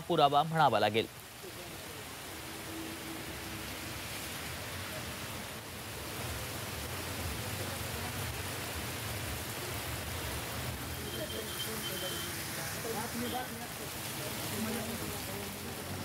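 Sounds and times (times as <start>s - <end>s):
floodwater rushing over street: 0.0s - 16.0s
heavy rain pouring: 0.0s - 16.0s.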